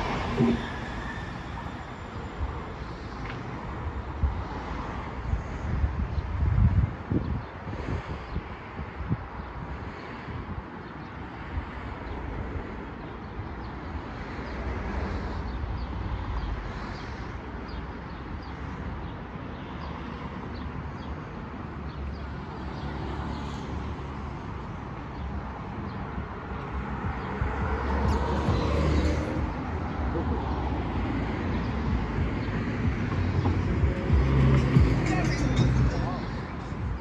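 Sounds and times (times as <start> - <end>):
cars going by: 0.0 - 37.0.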